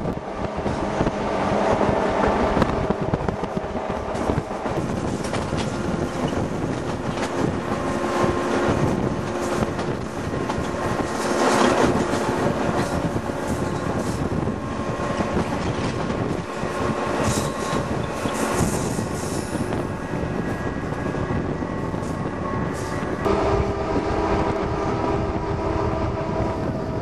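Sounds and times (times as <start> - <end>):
train wheels rumbling on rails: 0.0 - 27.0
wind noise: 0.0 - 27.0.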